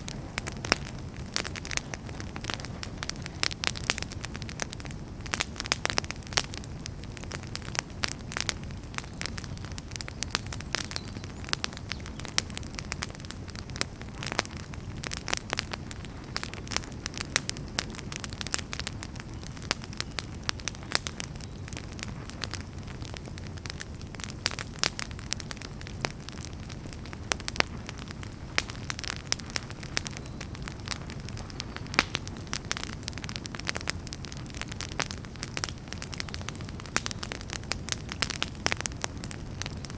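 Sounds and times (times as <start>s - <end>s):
low rumble of flames: 0.0s - 39.9s
wood crackling and popping: 0.0s - 39.9s.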